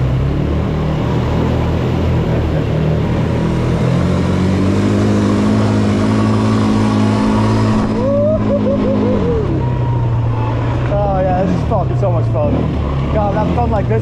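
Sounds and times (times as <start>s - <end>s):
quad bike engine running hard: 0.0s - 14.0s.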